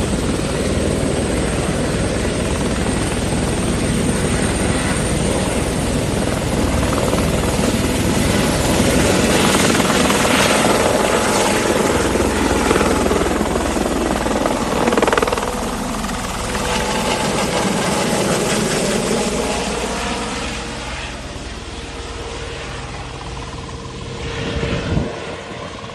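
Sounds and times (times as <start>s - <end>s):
helicopter rotor and turbine engine: 0.0s - 25.9s.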